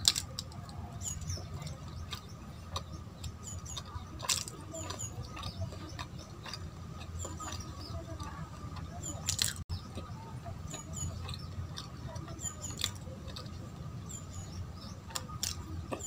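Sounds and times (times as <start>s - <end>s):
wet chewing with mouth clicks: 0.0s - 16.0s.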